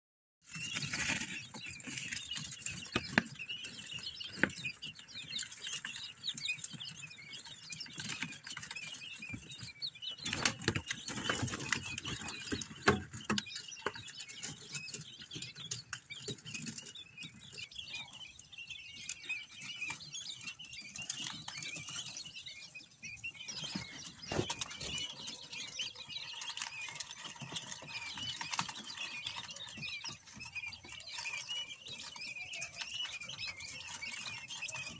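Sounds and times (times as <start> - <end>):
quail chicks peeping: 0.4 - 34.9.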